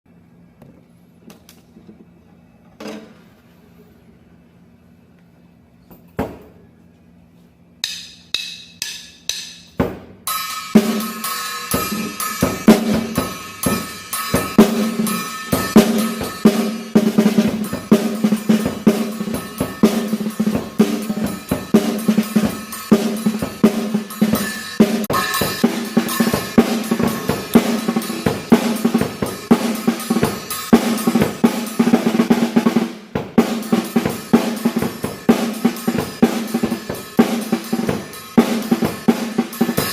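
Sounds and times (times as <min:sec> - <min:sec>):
drum kit groove: 0:07.8 - 0:39.9
snare drum strikes: 0:07.8 - 0:39.9.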